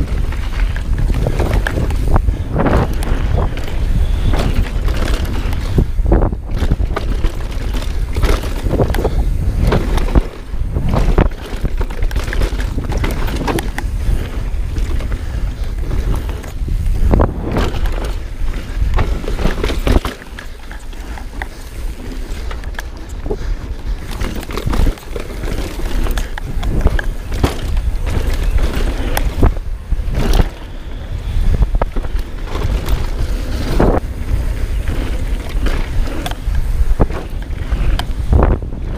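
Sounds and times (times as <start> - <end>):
bike knocks and rattles: 0.0 - 38.9
bike tyres rolling and skidding: 0.0 - 38.9
wind buffeting microphone: 0.0 - 38.9.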